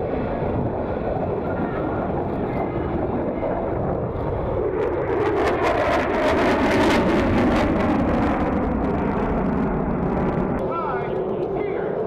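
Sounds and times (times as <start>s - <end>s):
jet engines roaring overhead: 0.0s - 12.0s.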